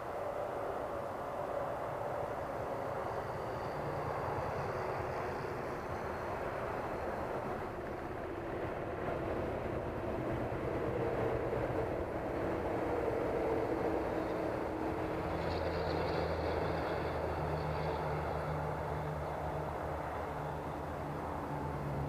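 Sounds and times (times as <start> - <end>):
model plane engine drone: 0.0 - 22.0.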